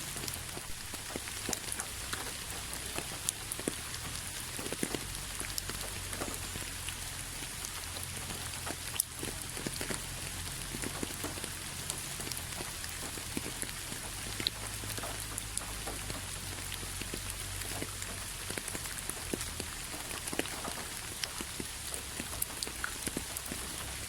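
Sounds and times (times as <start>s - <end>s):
raindrops tapping close by: 0.0s - 24.0s
steady rain falling: 0.0s - 24.0s.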